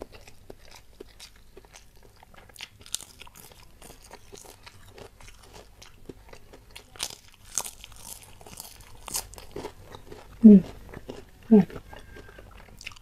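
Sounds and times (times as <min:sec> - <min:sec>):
person crunching crackers: 0:00.0 - 0:13.0.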